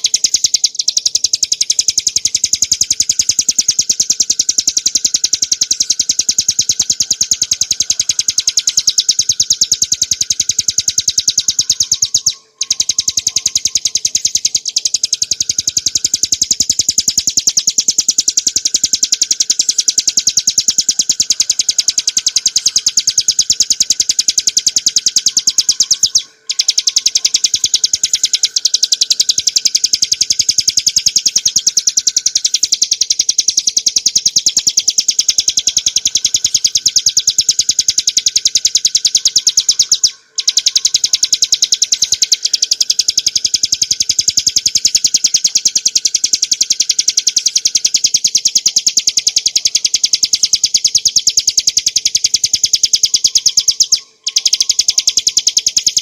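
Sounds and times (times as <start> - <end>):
bird singing high-pitched trill: 0.0 - 56.0.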